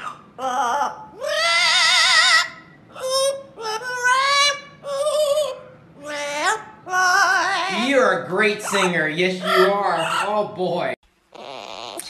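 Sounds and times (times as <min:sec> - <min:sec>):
parrot singing: 0:00.0 - 0:12.0.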